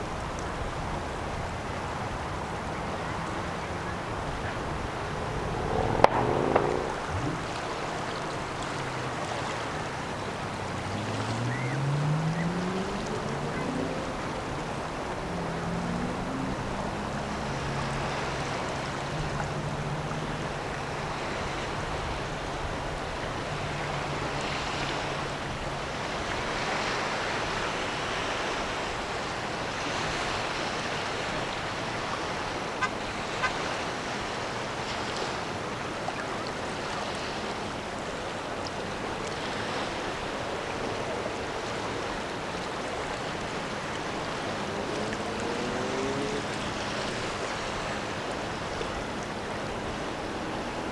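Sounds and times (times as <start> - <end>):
river water rushing: 0.0 - 50.9
wind: 0.0 - 50.9.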